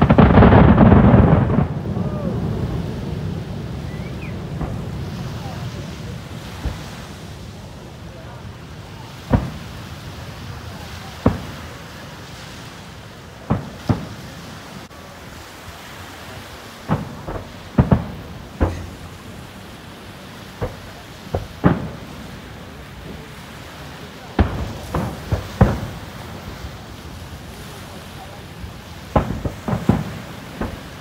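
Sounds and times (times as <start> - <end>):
firework booms: 0.0 - 31.0.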